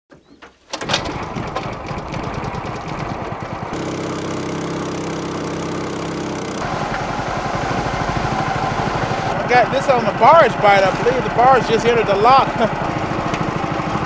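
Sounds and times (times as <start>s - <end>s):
outboard motor chugging: 0.8s - 14.0s.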